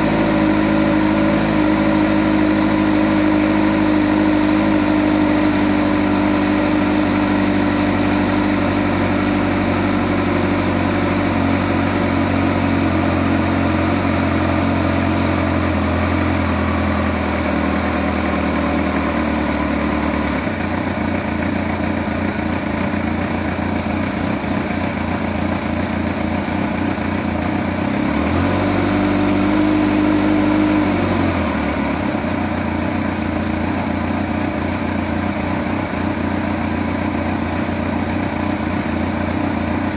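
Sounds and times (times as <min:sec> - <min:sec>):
engine ticking: 0:00.0 - 0:39.9
motorcycle engine idling: 0:00.0 - 0:39.9.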